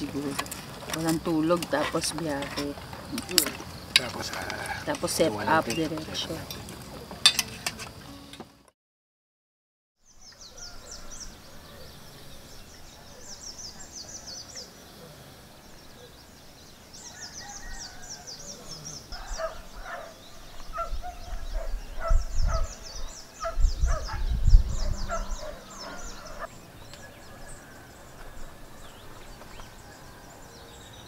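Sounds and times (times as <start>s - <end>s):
small birds twittering: 0.0s - 8.1s, 10.0s - 31.0s.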